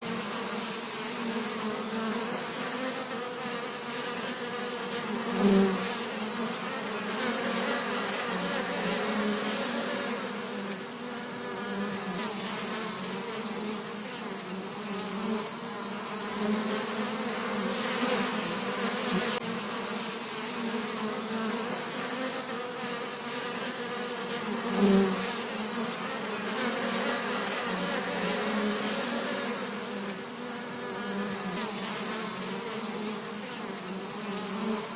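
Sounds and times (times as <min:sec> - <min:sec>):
bees buzzing: 0:00.0 - 0:34.9.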